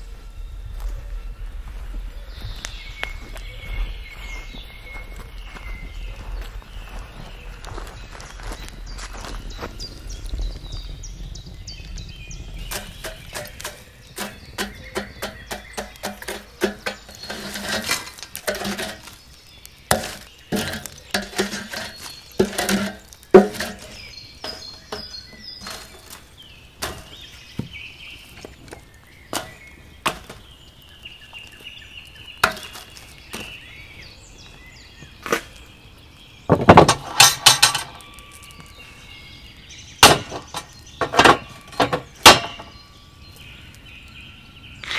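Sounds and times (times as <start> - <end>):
birds chirping: 0.0 - 44.9
embers clinking on cast iron: 7.6 - 44.9.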